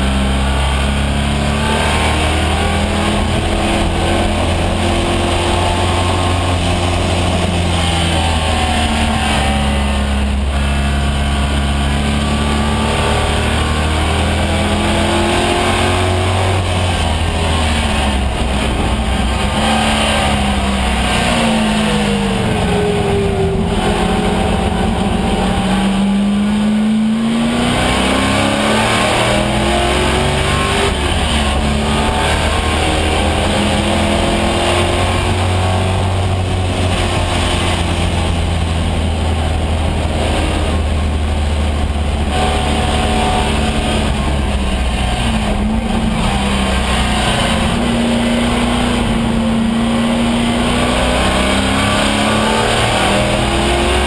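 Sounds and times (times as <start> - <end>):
race car engine revving: 0.0 - 54.0
road and wind noise: 0.0 - 54.0.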